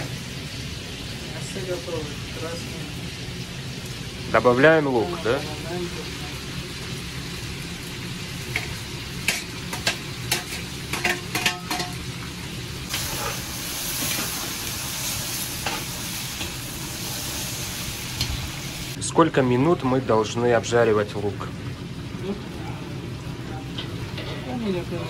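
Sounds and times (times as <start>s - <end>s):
meat sizzling in hot oil: 0.0s - 25.0s.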